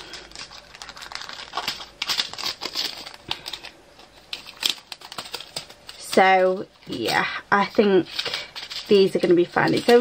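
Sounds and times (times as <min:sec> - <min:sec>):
plastic bags crinkling and clicking: 0:00.0 - 0:10.0.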